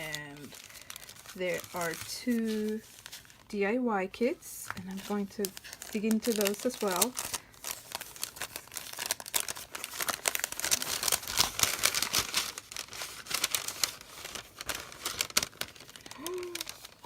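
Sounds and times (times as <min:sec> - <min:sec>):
plastic packaging crinkling: 0:00.0 - 0:03.6, 0:04.2 - 0:17.0.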